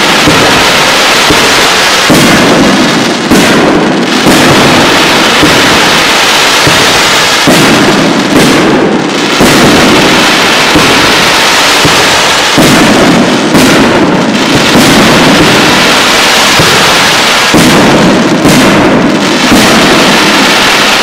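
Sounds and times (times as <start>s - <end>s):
fireworks launching and bursting: 0.0s - 21.0s
sharp firework bangs: 0.0s - 21.0s.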